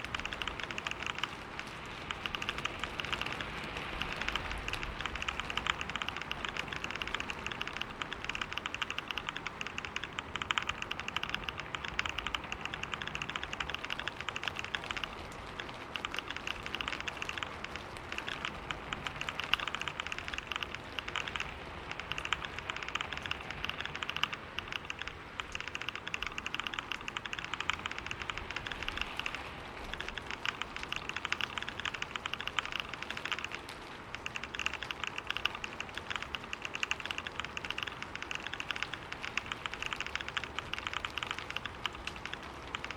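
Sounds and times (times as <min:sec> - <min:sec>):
fast typing on computer keyboard: 0:00.0 - 0:42.9.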